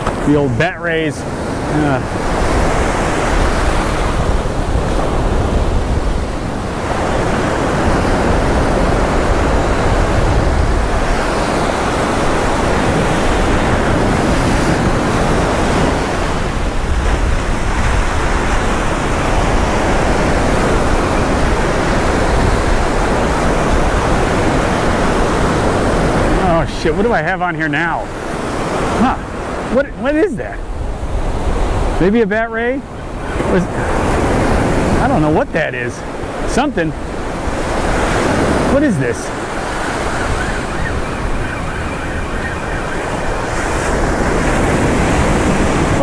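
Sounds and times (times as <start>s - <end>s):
ocean surf breaking: 0.0s - 46.0s
wind buffeting microphone: 0.0s - 46.0s.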